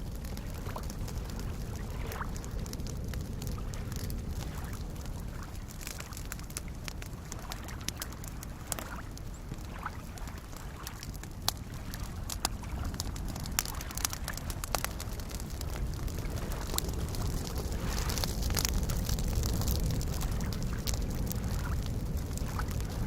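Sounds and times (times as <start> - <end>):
campfire crackling and popping: 0.0 - 23.0
small waves lapping: 0.2 - 22.9.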